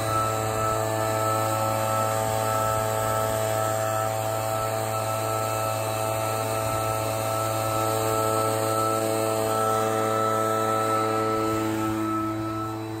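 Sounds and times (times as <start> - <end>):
leaf blower engine running: 0.0 - 13.0.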